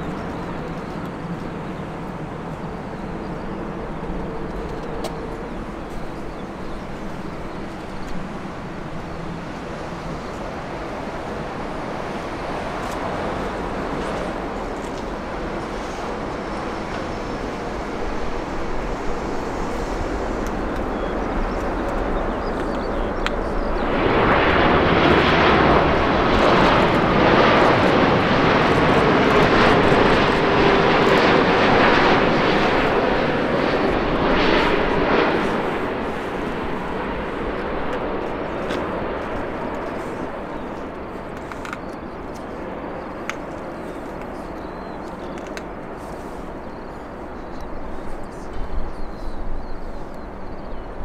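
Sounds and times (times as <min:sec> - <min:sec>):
jet engines running: 0:00.0 - 0:51.0.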